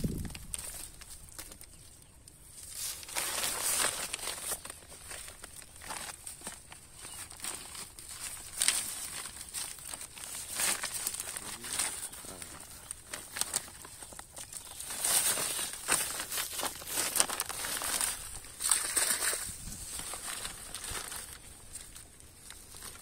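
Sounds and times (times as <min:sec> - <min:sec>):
plastic sack rustling and crinkling: 0:00.0 - 0:23.0.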